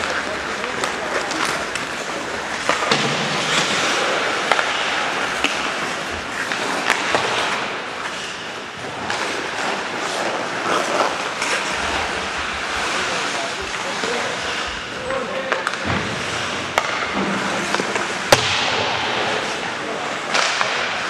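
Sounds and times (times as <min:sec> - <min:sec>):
skate blades scraping ice: 0:00.0 - 0:21.0
sticks and puck clacking: 0:00.0 - 0:21.0.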